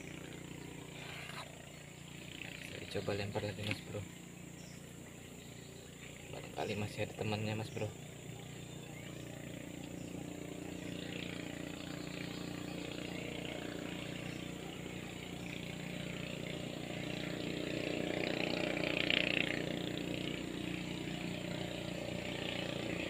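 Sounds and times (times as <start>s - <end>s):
engine droning: 0.0s - 23.0s.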